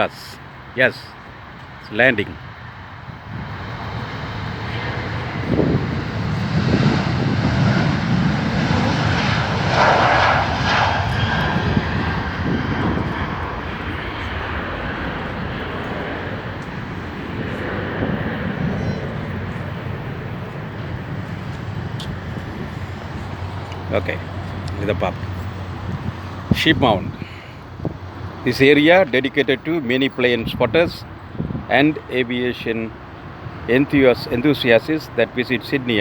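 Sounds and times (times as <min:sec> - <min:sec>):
jet airliner landing: 0:00.0 - 0:36.0.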